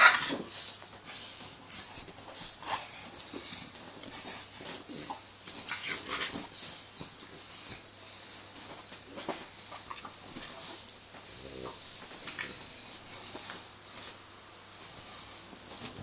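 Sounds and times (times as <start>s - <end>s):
puppy vocal noises: 0.0s - 14.2s.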